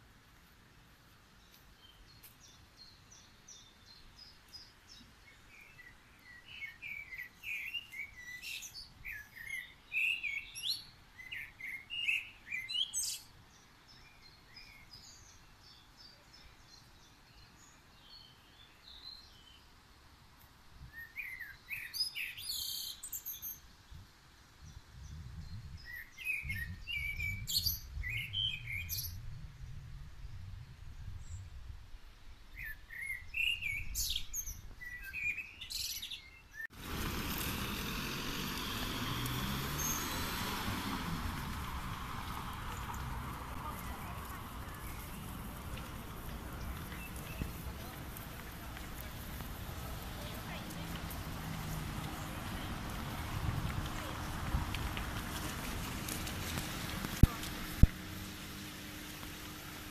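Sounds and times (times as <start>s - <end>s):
songbirds chirping and trilling: 1.1s - 31.5s, 32.4s - 54.4s.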